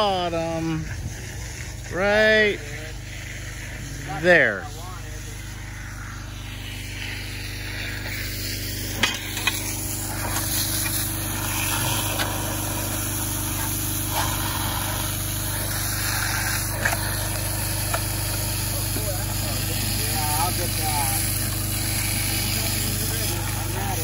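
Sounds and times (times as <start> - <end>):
engine droning: 0.0 - 24.0
pressure washer jet hissing on metal: 0.0 - 24.0.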